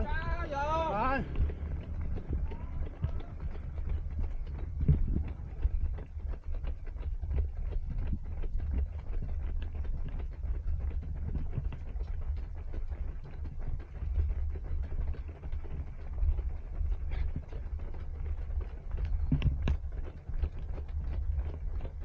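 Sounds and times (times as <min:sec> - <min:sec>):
low rumble: 0:00.0 - 0:22.0
runners' footsteps: 0:00.0 - 0:22.0.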